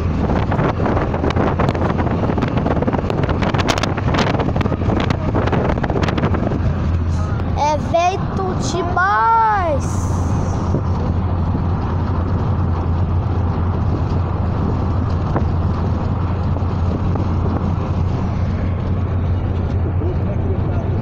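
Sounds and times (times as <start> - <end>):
road and wind noise in car: 0.0 - 21.0
wind buffeting microphone: 0.0 - 21.0.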